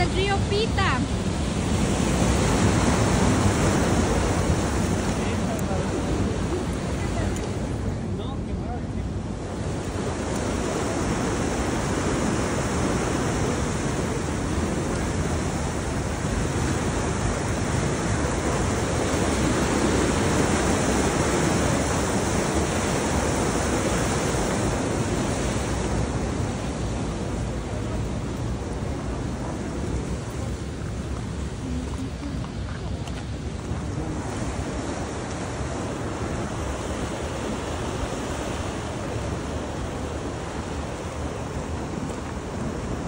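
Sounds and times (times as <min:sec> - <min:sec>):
fast-flowing river water rushing: 0:00.0 - 0:08.2, 0:08.9 - 0:43.0
wind buffeting microphone: 0:00.0 - 0:43.0.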